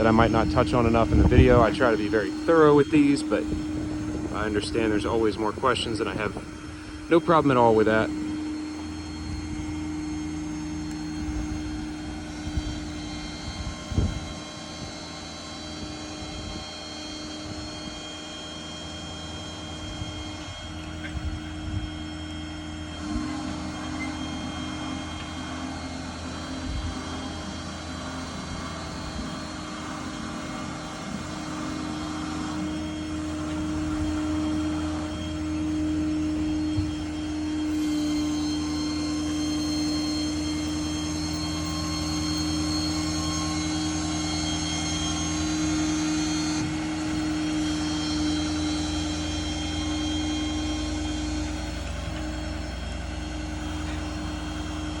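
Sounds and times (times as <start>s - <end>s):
diesel engine running: 0.0s - 55.0s
higher whine: 0.0s - 55.0s
hydraulic crane whine and drone: 0.0s - 55.0s.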